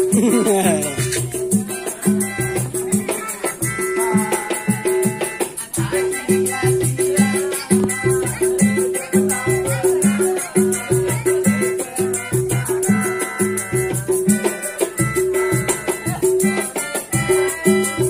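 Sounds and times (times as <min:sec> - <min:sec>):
rattling shaker: 0:00.0 - 0:15.0
melodica playing a melody: 0:00.0 - 0:18.0
quick percussion beat: 0:00.0 - 0:18.0.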